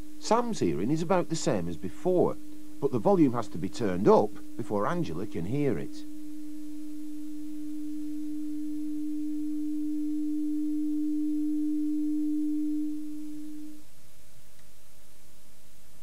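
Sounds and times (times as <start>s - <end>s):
low-pitched pure test tone: 0.0s - 16.0s.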